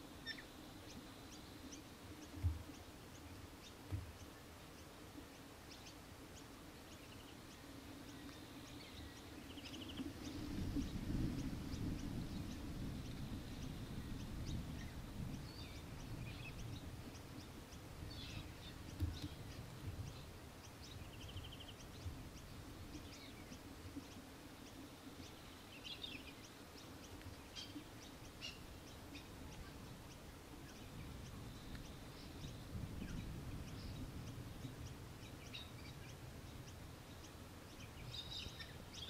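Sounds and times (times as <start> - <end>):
low wind rumble: 0.0 - 39.0
small birds chirping: 0.0 - 39.0.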